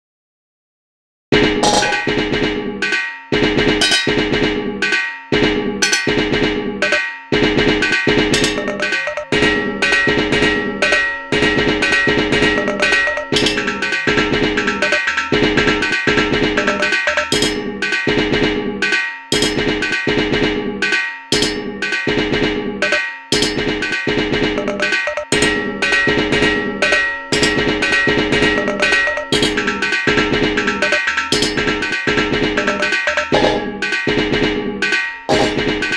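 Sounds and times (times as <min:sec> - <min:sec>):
metallic knocks in repeating rhythm: 0:01.4 - 0:35.9.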